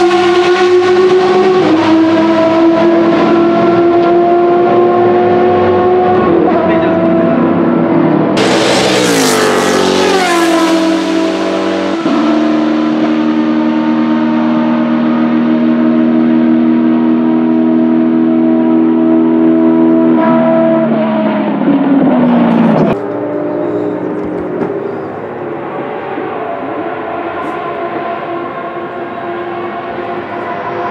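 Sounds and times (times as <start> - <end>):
racing engine at high revs: 0.0 - 30.9.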